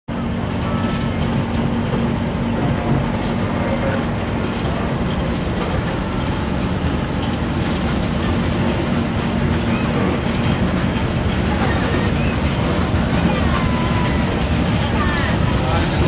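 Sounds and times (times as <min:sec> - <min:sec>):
train wheels rumbling on rails: 0:00.1 - 0:16.0.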